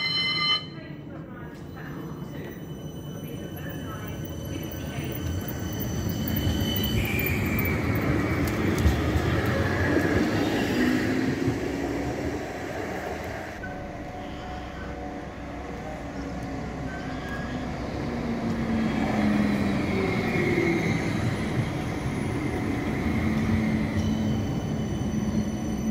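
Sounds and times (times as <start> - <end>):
tram electric drive whine: 0.0 - 25.9
steel wheels rumbling on rail: 1.0 - 25.9.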